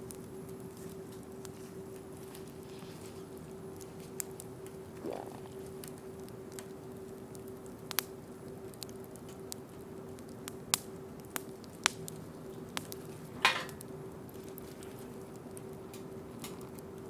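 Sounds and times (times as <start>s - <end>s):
bonfire crackling and popping: 0.1s - 17.0s.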